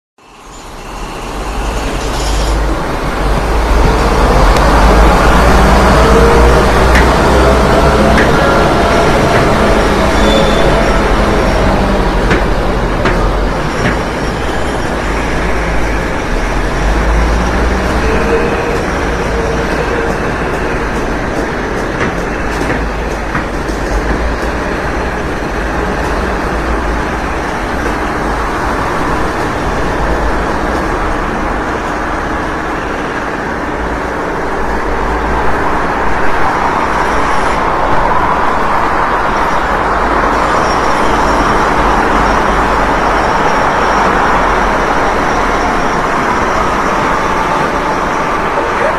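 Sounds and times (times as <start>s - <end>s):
construction and heavy vehicle din: 0.2s - 48.9s.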